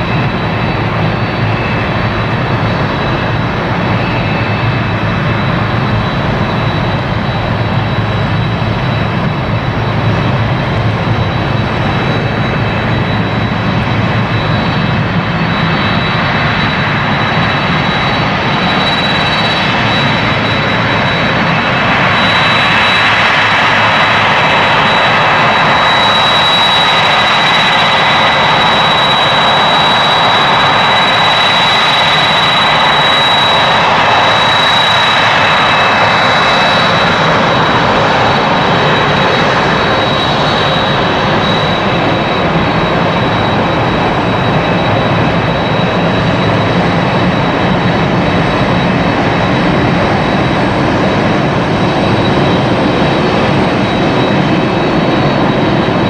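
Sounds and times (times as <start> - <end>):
jet engines whistling: 0.0 - 56.0.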